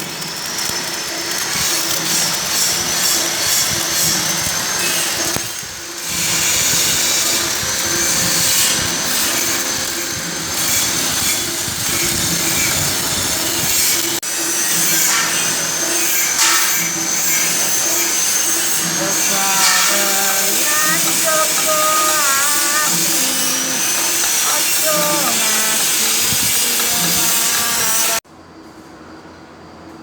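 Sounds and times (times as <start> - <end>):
power tool whining: 0.0 - 28.2.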